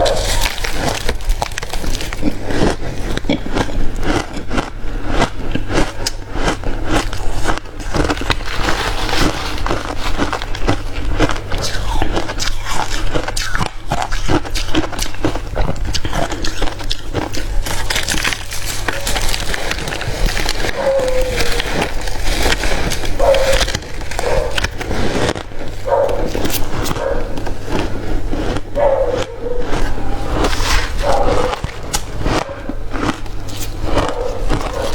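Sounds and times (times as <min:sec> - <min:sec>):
crushed ice being chewed: 0:00.0 - 0:34.9.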